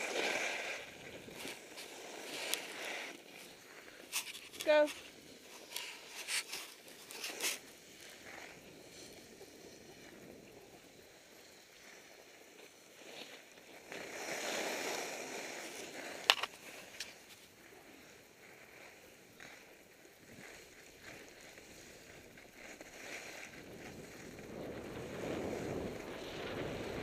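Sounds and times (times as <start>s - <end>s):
skis scraping over snow: 0.0s - 27.0s.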